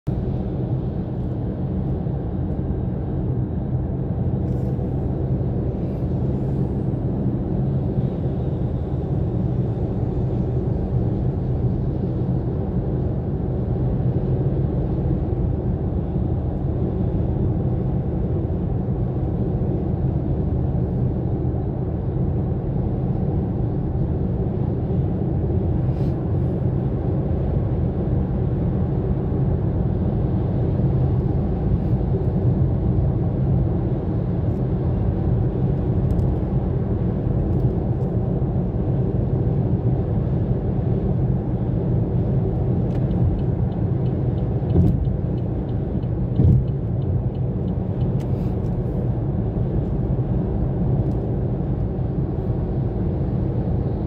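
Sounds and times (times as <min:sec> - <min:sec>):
car tyre and engine rumble: 0:00.0 - 0:54.0.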